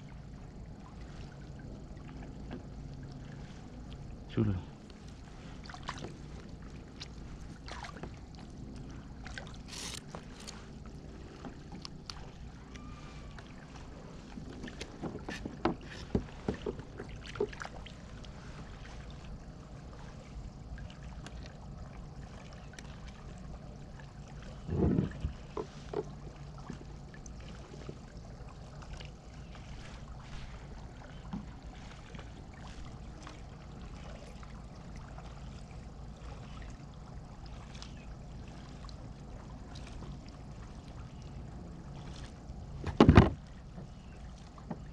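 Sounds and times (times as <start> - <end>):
boat low rumble: 0.0 - 44.9.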